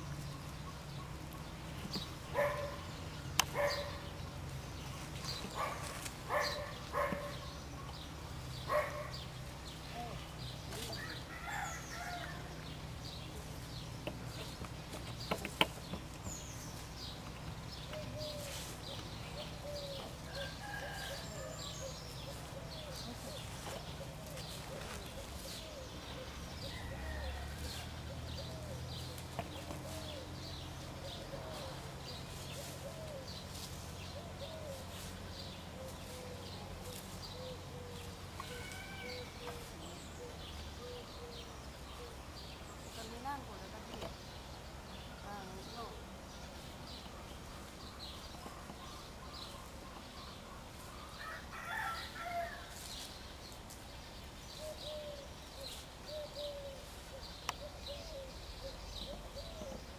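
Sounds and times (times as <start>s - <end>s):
birds chirping and calling: 0.0s - 59.9s.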